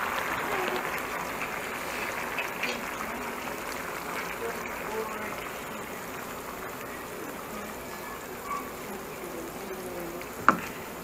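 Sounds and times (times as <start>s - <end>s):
sauce bubbling and sizzling in pan: 0.0s - 11.0s.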